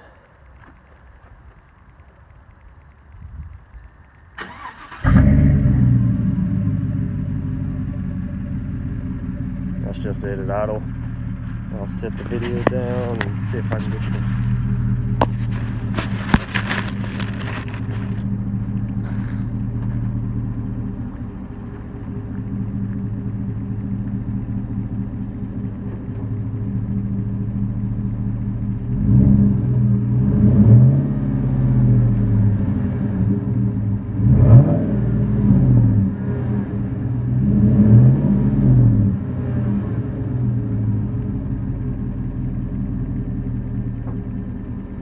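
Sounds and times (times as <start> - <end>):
truck engine idling and revving: 0.0 - 45.0.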